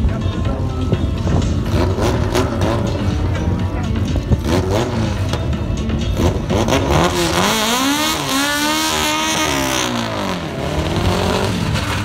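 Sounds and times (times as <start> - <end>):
car engine revving: 1.0 - 12.0.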